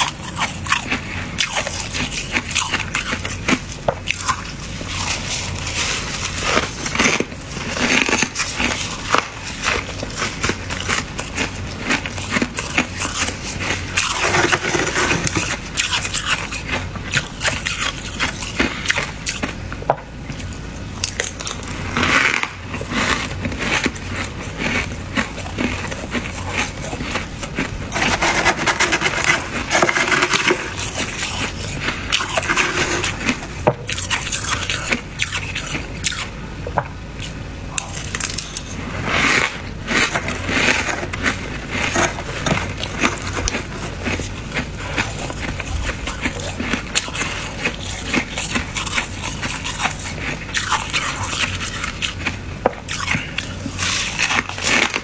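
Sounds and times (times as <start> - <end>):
frost being scraped: 0.0 - 19.0, 21.8 - 35.9, 37.9 - 52.3.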